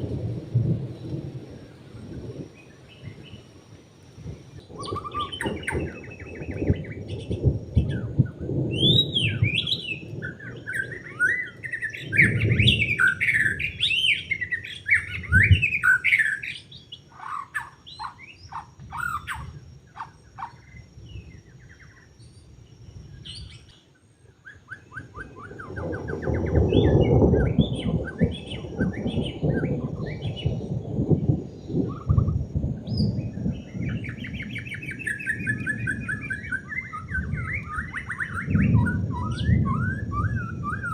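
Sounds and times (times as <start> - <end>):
bird singing whistles and trills: 4.5 - 40.9.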